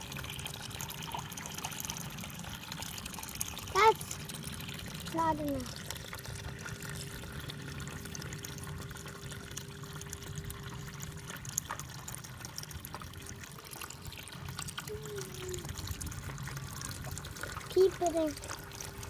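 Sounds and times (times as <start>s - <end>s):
faint steady hum: 0.0s - 19.0s
water trickling into tub: 0.0s - 19.0s.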